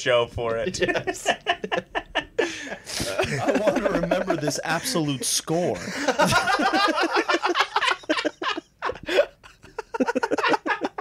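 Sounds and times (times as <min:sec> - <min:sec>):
men laughing: 0:00.7 - 0:11.0.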